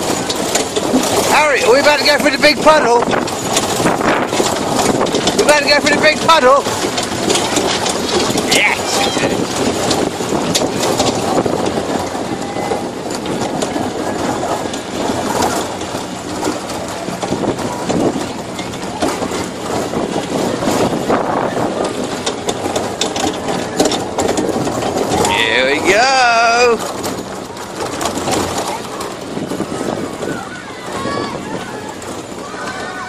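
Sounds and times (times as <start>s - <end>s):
carts rattling and clattering: 0.0s - 33.0s
tractor engine running: 0.0s - 33.0s.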